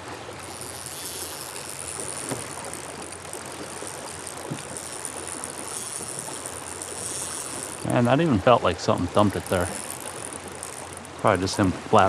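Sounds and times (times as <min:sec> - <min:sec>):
river flowing and rippling: 0:00.0 - 0:12.0.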